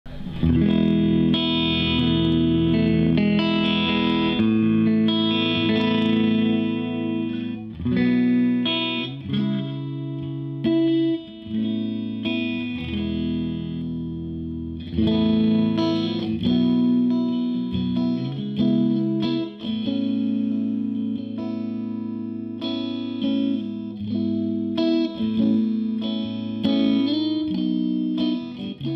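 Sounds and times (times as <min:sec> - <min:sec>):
electric guitar strumming chords: 0:00.1 - 0:28.9.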